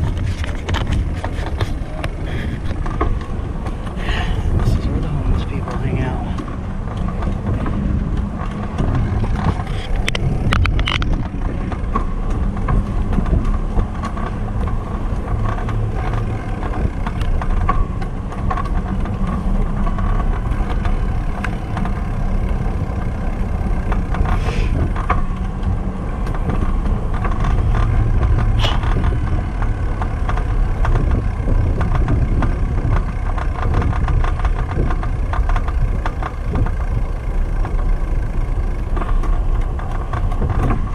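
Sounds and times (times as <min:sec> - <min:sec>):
bicycle rolling on concrete: 0:00.0 - 0:40.9
wind rumble: 0:00.0 - 0:40.9.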